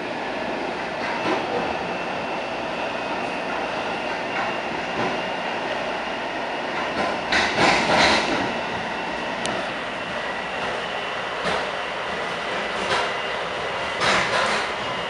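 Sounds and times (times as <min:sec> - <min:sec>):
train rumble and hiss: 0:00.0 - 0:15.0.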